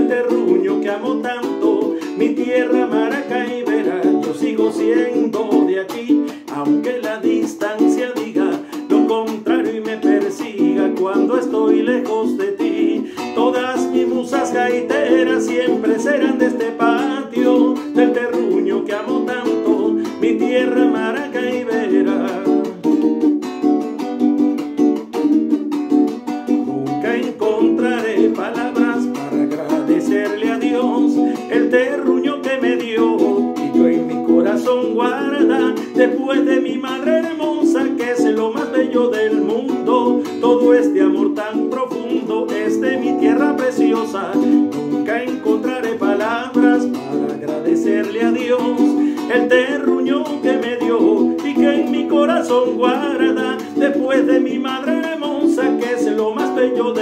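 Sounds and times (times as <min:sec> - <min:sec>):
small acoustic string instrument strummed: 0:00.0 - 0:57.0.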